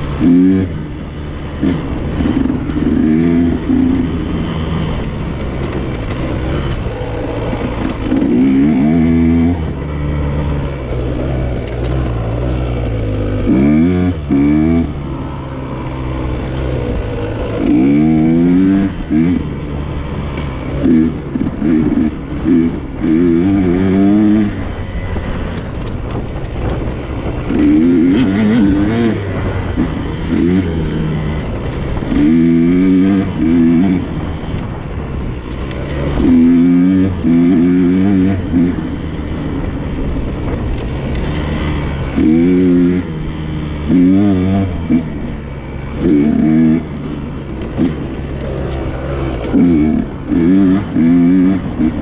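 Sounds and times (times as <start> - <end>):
dirt bike engine revving: 0.0 - 25.6, 26.9 - 52.0.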